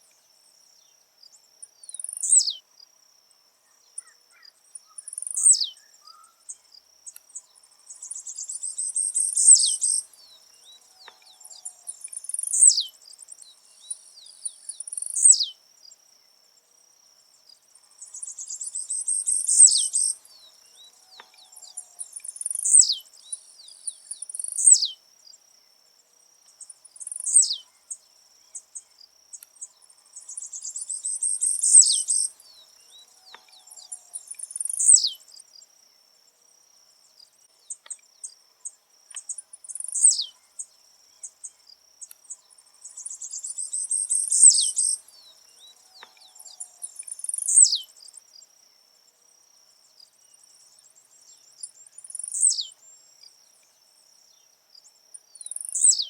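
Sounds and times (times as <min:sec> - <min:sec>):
high insect whine: 0:00.3 - 0:56.0.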